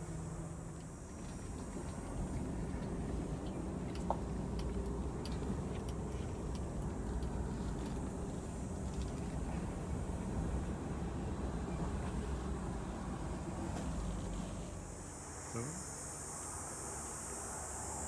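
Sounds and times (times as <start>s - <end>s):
car engine rumbling: 0.0s - 15.7s.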